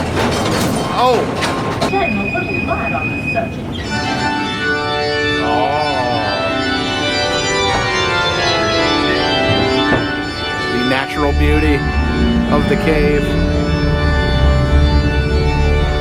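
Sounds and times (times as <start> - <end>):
organ music with held chords: 2.6 - 16.0.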